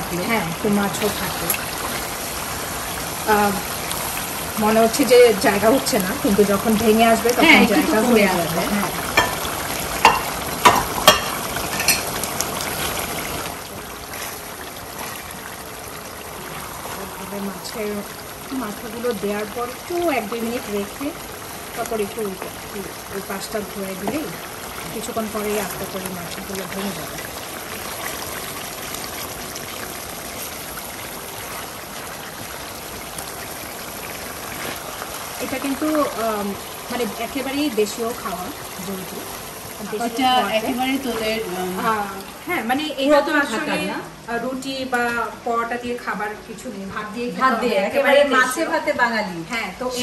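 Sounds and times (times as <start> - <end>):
fish sizzling in oil: 0.0 - 50.0.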